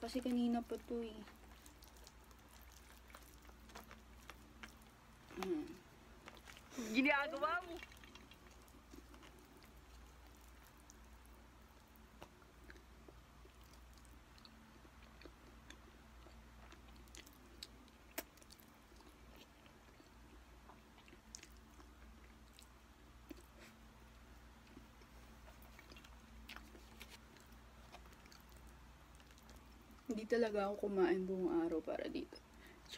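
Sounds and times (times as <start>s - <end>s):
soft chewing and mouth sounds: 0.0s - 32.9s.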